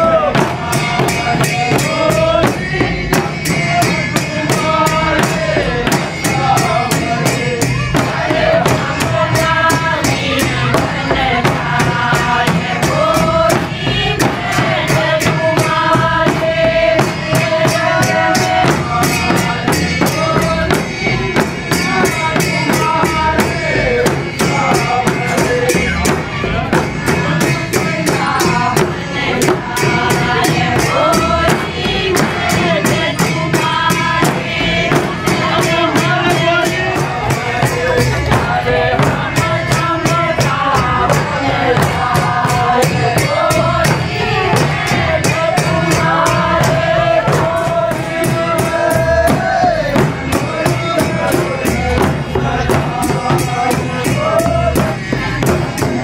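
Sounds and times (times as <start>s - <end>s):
barrel drums beating: 0.0s - 56.0s
group singing: 0.0s - 56.0s
jingling percussion: 0.0s - 56.0s.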